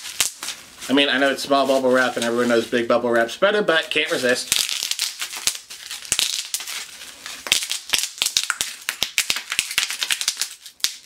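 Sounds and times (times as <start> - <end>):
bubble wrap popping: 0.0 - 2.5, 3.7 - 11.0.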